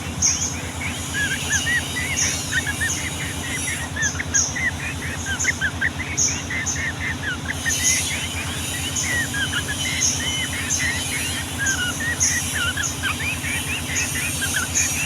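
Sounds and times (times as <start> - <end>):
birds singing bubbling whistles: 0.0 - 15.0
high chirps: 0.0 - 15.0
low rumbling hum: 0.0 - 15.0.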